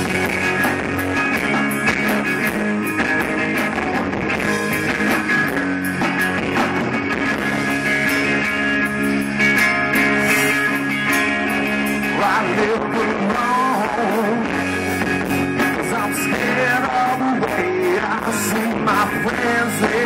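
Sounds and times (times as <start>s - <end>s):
bending lead guitar line: 0.0s - 20.0s
rock band playing: 0.0s - 20.0s.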